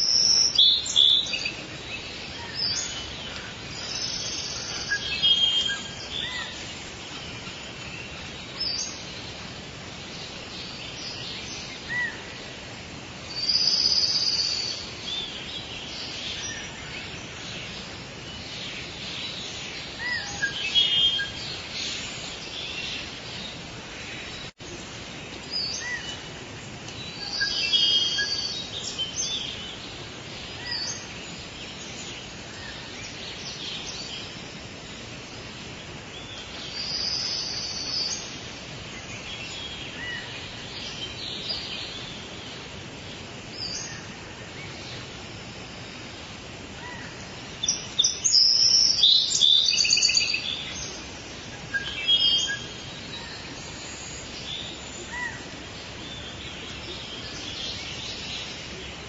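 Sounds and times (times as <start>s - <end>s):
birds chirping and singing: 0.0s - 12.6s, 13.2s - 45.3s, 46.5s - 59.0s
forest background hiss: 0.0s - 59.0s.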